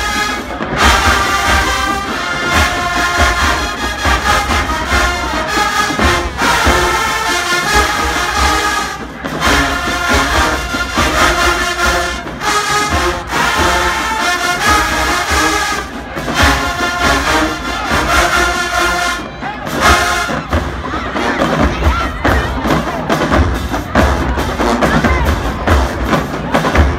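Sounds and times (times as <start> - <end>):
heavy drums: 0.0 - 26.9
marching band brass: 0.0 - 26.9.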